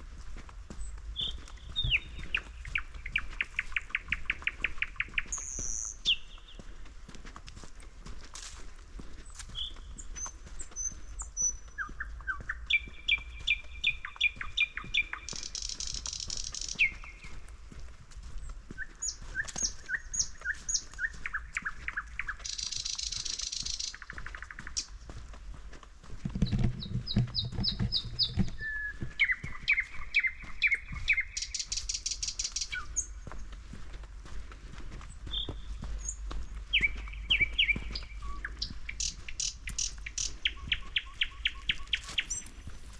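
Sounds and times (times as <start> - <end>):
small birds chirping: 0.0 - 6.9, 7.9 - 42.9
footsteps crunching on forest floor: 0.0 - 42.9
songbirds calling: 0.7 - 6.9, 9.0 - 25.4, 26.3 - 42.9.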